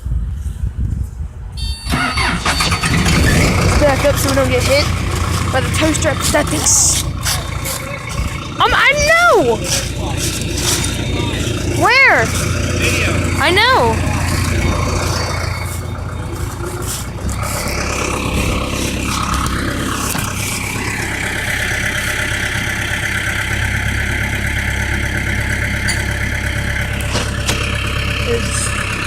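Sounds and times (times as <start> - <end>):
engine idling: 1.8 - 29.0.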